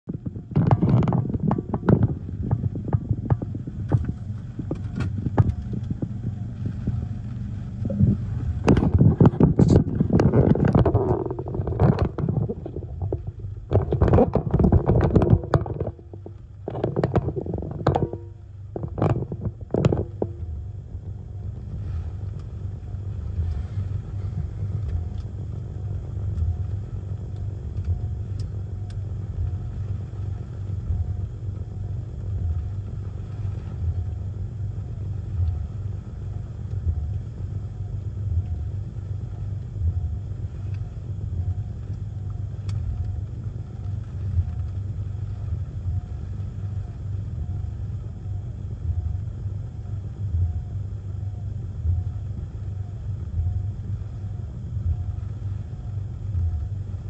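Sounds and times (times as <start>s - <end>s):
wind and rain buffeting car: 0.0s - 51.2s, 51.8s - 57.0s.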